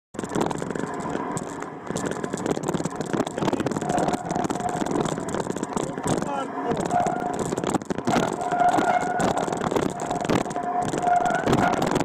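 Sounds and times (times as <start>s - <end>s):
off-road vehicle engine running: 0.1s - 12.0s
vehicle jolting over rocky track: 0.2s - 12.0s.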